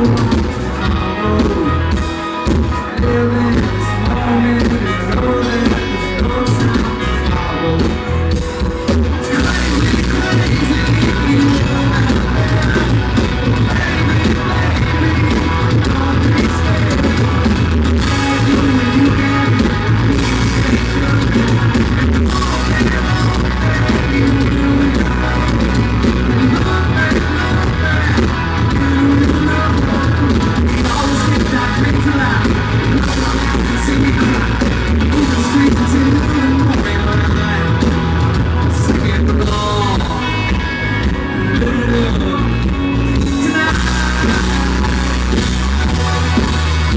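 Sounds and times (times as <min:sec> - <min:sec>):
live country rock band: 0:00.0 - 0:46.9
person singing lead vocal: 0:00.0 - 0:46.9.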